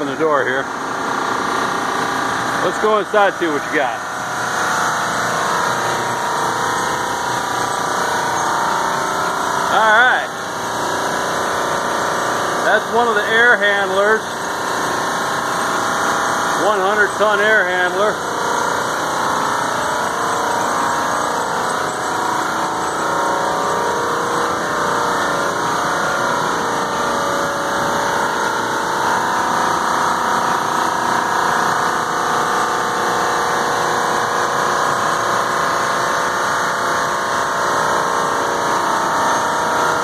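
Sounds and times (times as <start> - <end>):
air conditioning plant drone: 0.0 - 40.0.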